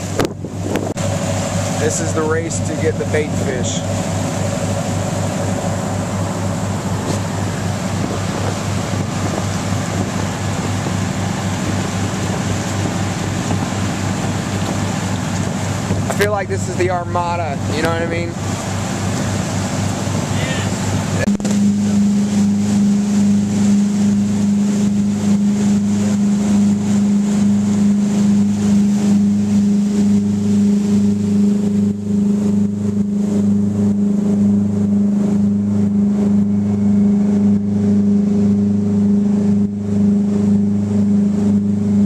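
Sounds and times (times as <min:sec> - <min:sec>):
boat engines droning: 0:00.0 - 0:42.0.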